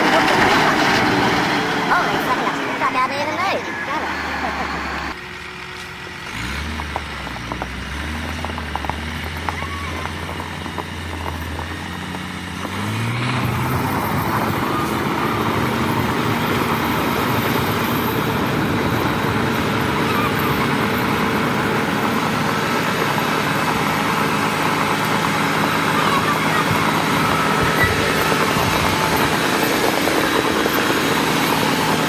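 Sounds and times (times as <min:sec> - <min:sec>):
dump truck diesel engine: 0:00.0 - 0:32.0.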